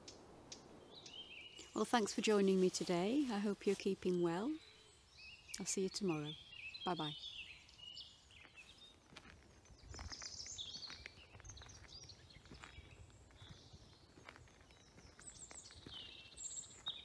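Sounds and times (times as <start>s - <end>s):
woodland birds singing: 0.0s - 17.0s.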